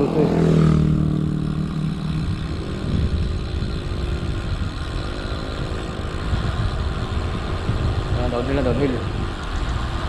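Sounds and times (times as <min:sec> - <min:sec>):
motor vehicle engine hum: 0:00.0 - 0:10.0
wind buffeting microphone: 0:00.5 - 0:10.0.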